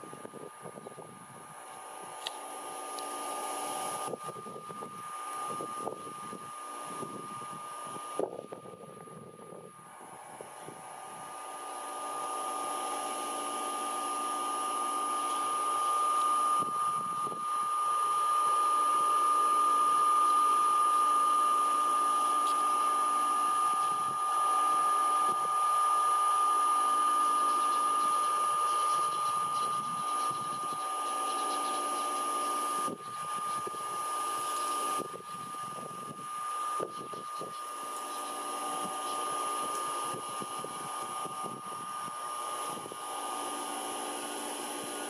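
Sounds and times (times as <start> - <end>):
motor whining: 0.0 - 45.0.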